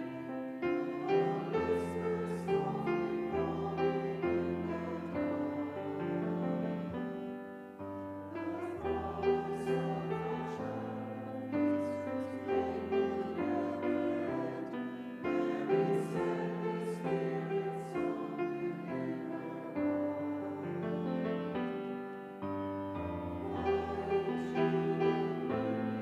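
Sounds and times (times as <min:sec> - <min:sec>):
slow hymn-like piano music: 0:00.0 - 0:26.0.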